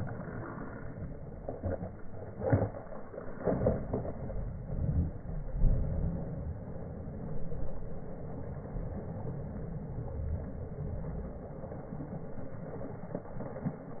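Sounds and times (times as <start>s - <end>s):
fish thrashing in water: 0.0s - 14.0s
low uneven rumble: 0.0s - 14.0s.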